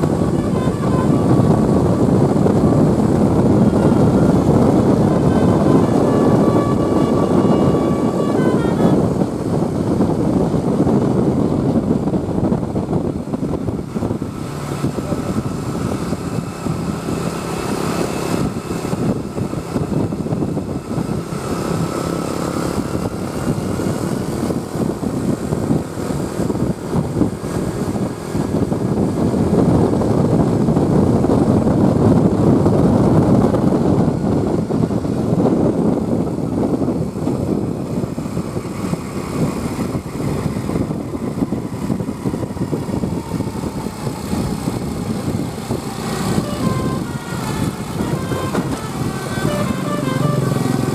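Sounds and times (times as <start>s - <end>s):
bus engine: 0.0s - 50.9s
road traffic: 0.0s - 50.9s.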